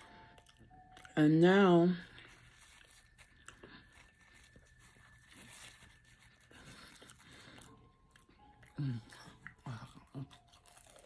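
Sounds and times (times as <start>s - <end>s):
quiet chewing of food: 0.0s - 11.0s.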